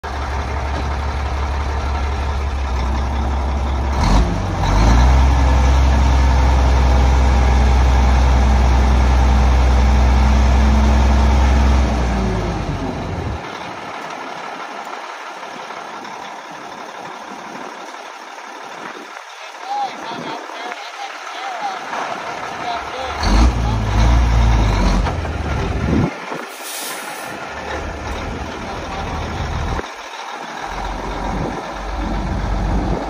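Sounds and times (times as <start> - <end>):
diesel truck engine: 0.0 - 33.0.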